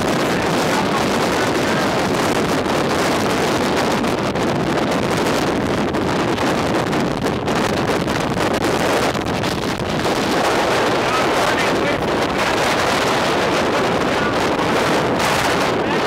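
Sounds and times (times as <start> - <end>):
loud wind noise on microphone: 0.0 - 16.0.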